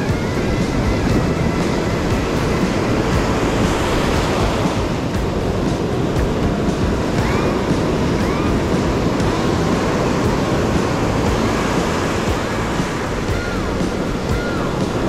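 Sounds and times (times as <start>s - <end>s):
faint whistling glides: 0.0s - 15.0s
ocean surf on beach: 0.0s - 15.0s
wind buffeting microphone: 0.0s - 15.0s.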